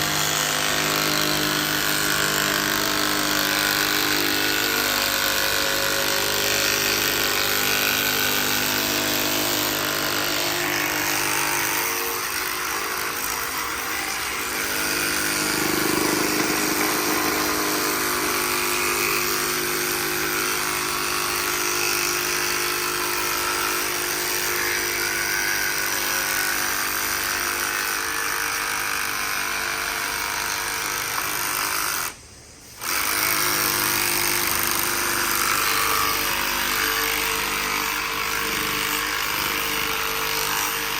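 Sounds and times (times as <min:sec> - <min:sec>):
power tool motor whining: 0:00.0 - 0:40.9.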